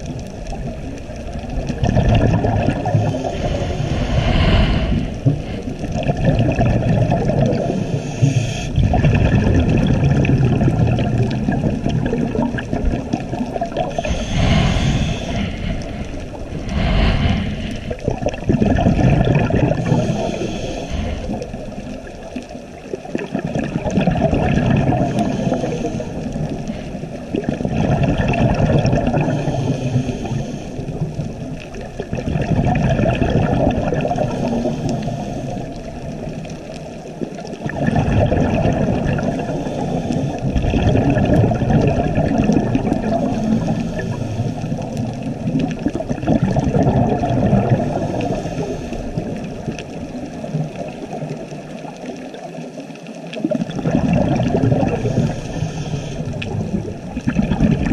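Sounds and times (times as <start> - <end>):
underwater breathing bubbles gurgling: 0.0 - 57.9.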